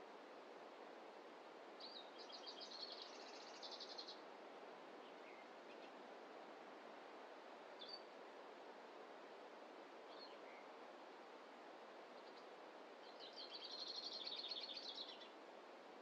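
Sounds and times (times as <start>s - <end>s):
faint forest hiss: 0.0s - 16.0s.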